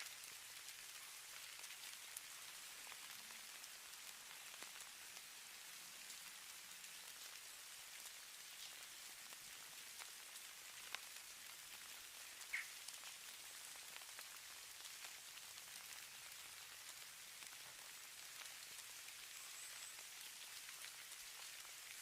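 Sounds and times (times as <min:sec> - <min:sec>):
snowflakes ticking: 0:00.0 - 0:22.0.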